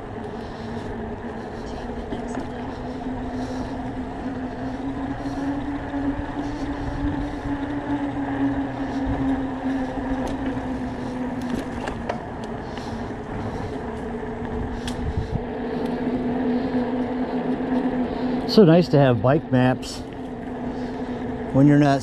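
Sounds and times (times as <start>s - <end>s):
electric bike motor hum: 0.0s - 22.0s
wind: 0.0s - 22.0s.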